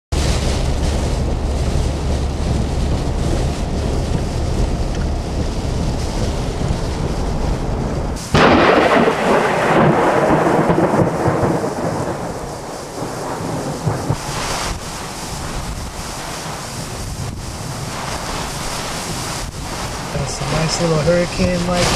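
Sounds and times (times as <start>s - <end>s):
steady rain: 0.1s - 21.9s
thunderclap rumbling: 0.1s - 21.9s
wind: 0.1s - 21.9s.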